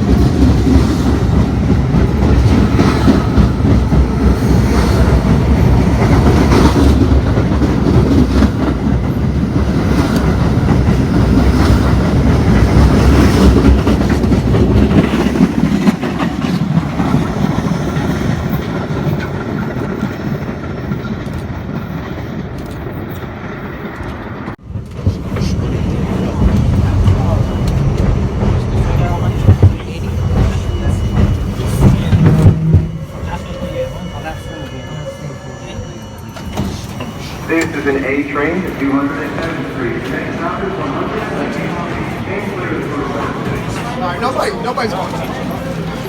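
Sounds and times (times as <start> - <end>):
subway car wheels clattering: 0.0 - 35.0, 36.1 - 46.0.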